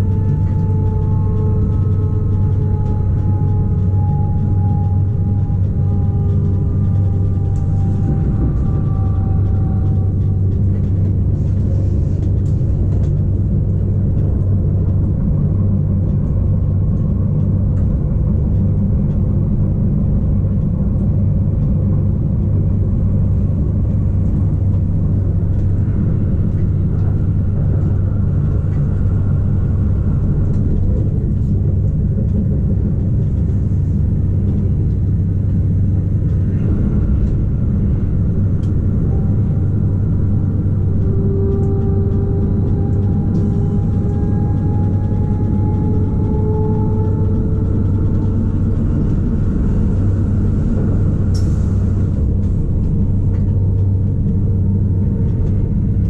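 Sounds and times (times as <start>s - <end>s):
electric train rumbling: 0.0s - 56.0s
steady hum: 0.0s - 56.0s.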